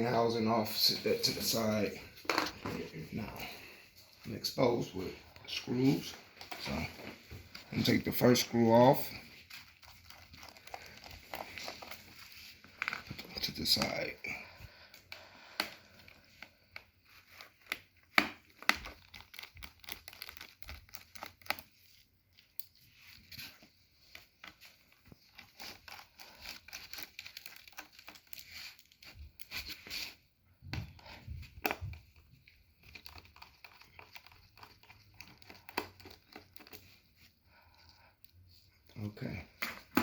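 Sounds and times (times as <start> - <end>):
plastic and tape rustling: 0.0 - 40.0.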